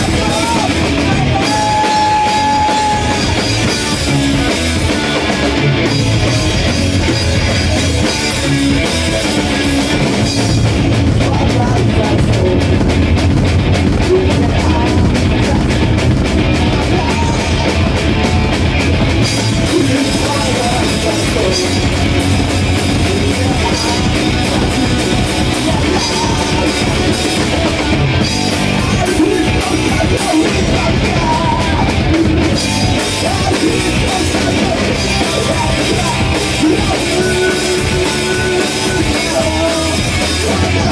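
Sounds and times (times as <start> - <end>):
drum kit: 0.0 - 40.9
electric guitar: 0.0 - 40.9.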